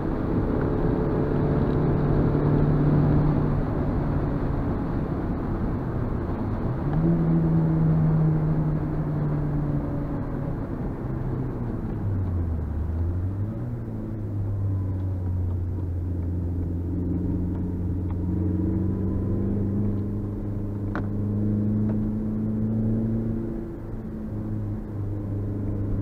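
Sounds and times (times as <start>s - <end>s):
car engine inside cabin: 0.0s - 26.0s.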